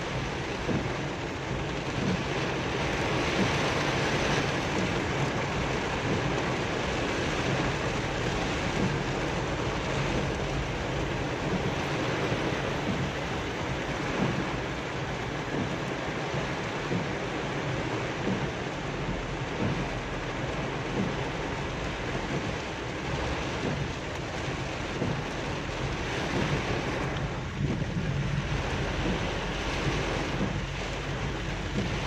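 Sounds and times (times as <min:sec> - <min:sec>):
heavy rain on car roof: 0:00.0 - 0:32.0.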